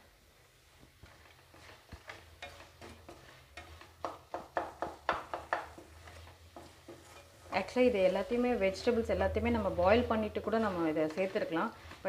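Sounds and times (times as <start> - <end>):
wooden spatula scraping a pan: 0.0 - 12.0.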